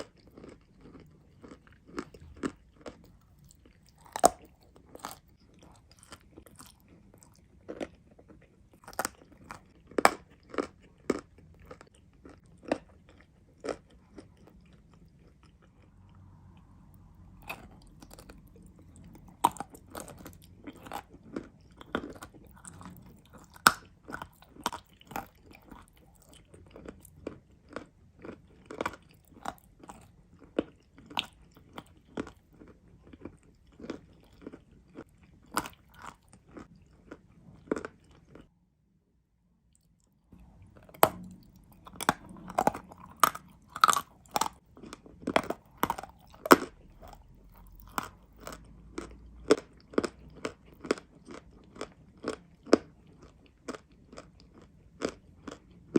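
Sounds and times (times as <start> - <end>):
person chewing crunchy clay: 0.0 - 38.5, 39.7 - 55.9.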